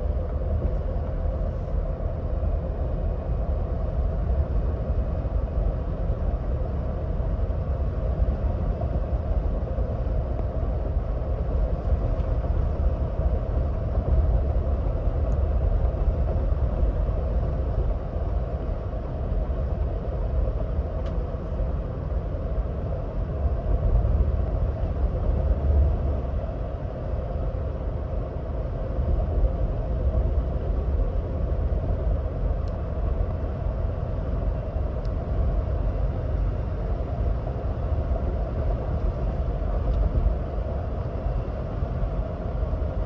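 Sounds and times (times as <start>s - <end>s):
deep engine rumble: 0.0s - 43.0s.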